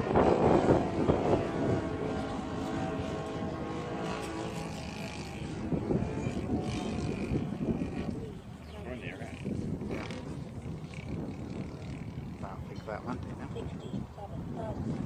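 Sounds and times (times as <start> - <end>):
model airplane engine droning: 0.0 - 15.0
wind gusts on microphone: 0.0 - 15.0.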